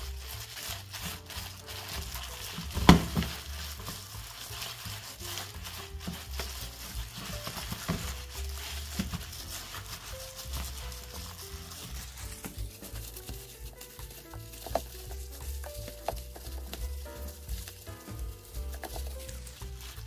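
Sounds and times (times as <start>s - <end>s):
gloved hands squelching paste: 0.0s - 20.0s
soft background music: 0.0s - 20.0s.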